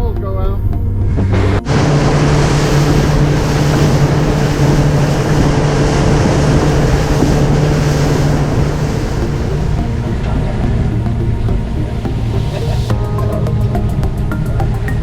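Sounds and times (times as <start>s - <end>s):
boat motor humming: 0.0s - 15.0s
wind buffeting microphone: 0.0s - 15.0s
waves splashing against hull: 1.0s - 15.0s.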